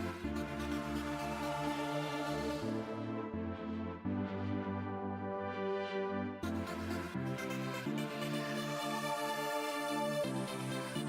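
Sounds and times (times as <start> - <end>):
held synthesizer chord: 0.0 - 11.0.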